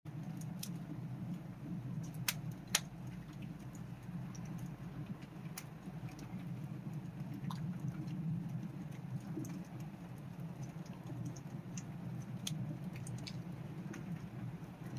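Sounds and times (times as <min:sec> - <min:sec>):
campfire crackling and popping: 0:00.1 - 0:14.9.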